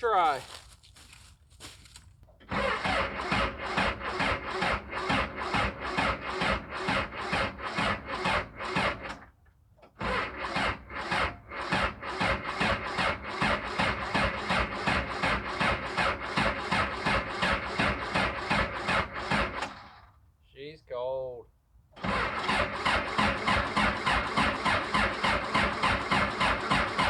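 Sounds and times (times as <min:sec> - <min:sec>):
diesel engine cranking: 0:00.2 - 0:20.2, 0:21.9 - 0:27.0.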